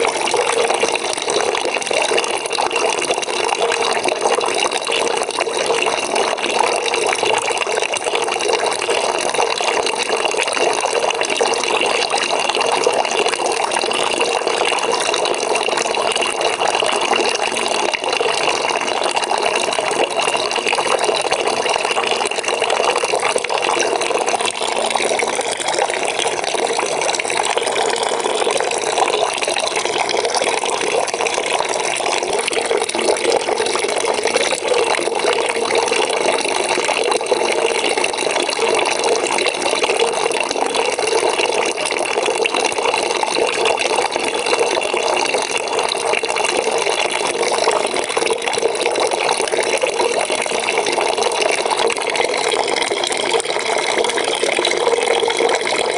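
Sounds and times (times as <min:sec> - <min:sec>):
tap water filling bucket: 0:00.0 - 0:55.9.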